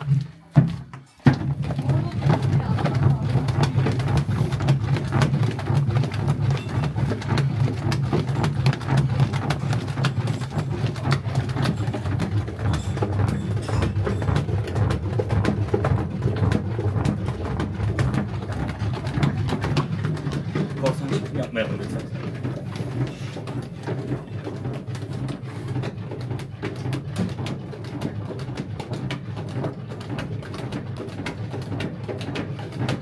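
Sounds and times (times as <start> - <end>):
paddle knocking and scraping pot: 0.0 - 33.0.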